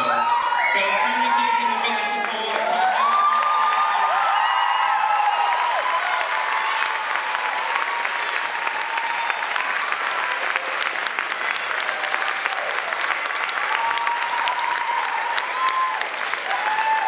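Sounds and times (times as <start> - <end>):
crowd clapping: 0.0 - 17.0.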